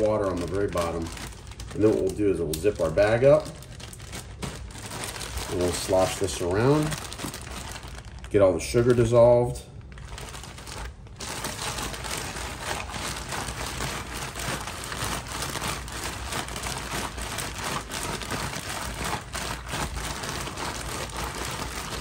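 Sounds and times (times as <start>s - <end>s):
liquid sloshing in bag: 0.0s - 9.1s, 9.8s - 22.0s
plastic bag crinkling: 0.0s - 22.0s.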